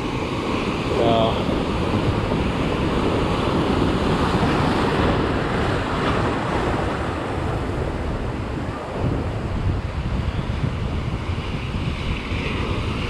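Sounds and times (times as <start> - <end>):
ocean surf breaking: 0.0 - 13.0
wind on microphone: 0.0 - 13.0.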